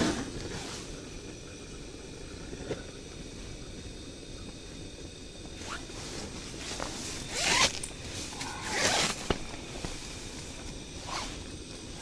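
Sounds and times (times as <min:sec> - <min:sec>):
gas torch hissing and flaring: 0:00.0 - 0:12.0.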